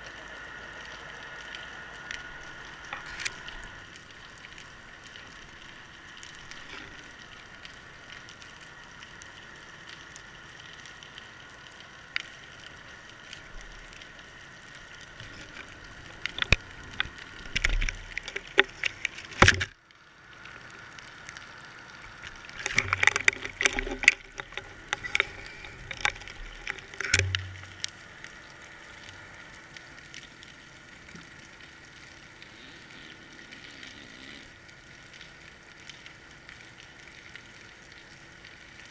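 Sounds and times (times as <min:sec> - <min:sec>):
faint underwater hiss: 0:00.0 - 0:35.3.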